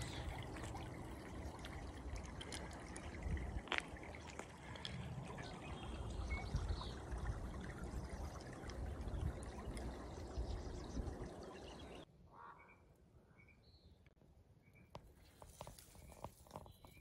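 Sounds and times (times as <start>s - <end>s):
creek water trickling: 0.0s - 12.1s, 15.2s - 17.0s.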